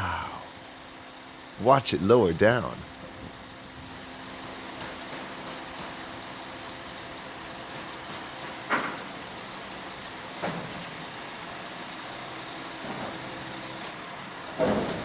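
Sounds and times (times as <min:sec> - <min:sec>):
truck engine running: 0:00.0 - 0:14.8.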